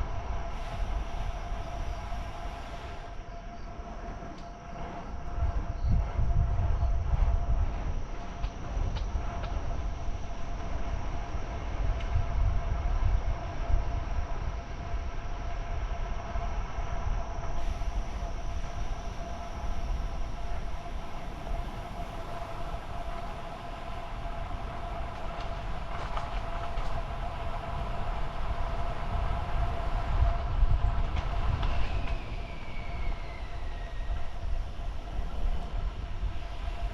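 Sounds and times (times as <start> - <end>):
whining tones: 0.0 - 36.9
wind buffeting microphone: 0.0 - 36.9.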